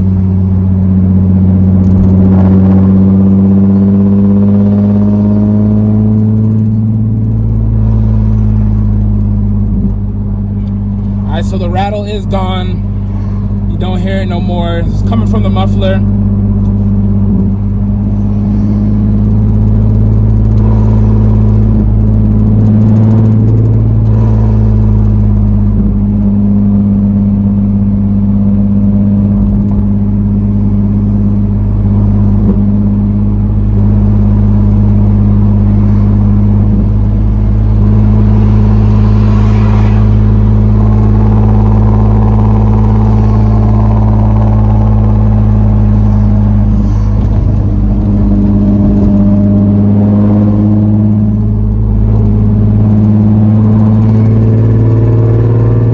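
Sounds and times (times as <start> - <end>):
car engine droning: 0.0 - 55.9.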